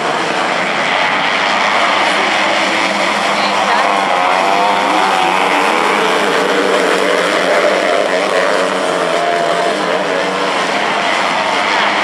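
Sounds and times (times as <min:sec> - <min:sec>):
race car engines whining: 0:00.0 - 0:12.0.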